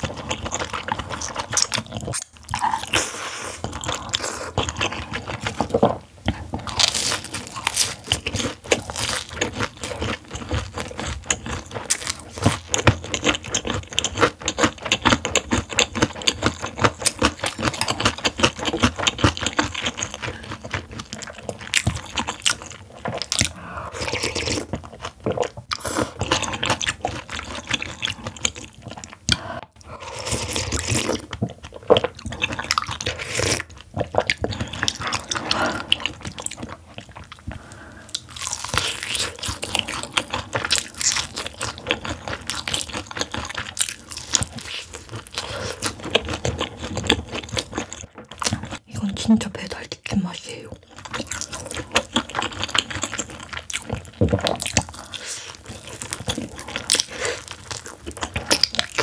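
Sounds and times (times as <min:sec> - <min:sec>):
crunching and chewing fried chicken: 0:00.0 - 0:48.9, 0:50.5 - 0:59.0.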